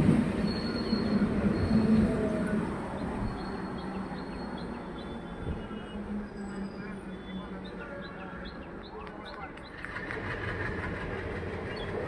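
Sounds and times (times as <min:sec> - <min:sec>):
electric train passing: 0:00.0 - 0:08.1, 0:09.7 - 0:12.0.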